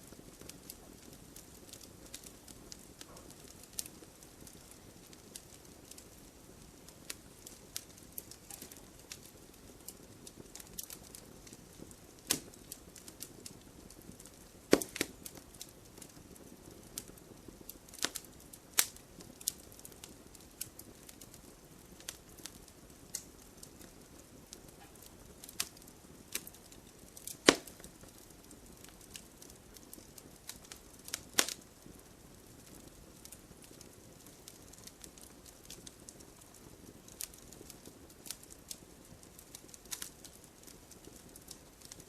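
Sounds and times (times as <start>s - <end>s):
firewood crackling and popping: 0.0s - 42.0s
soft low fire hiss: 0.0s - 42.0s.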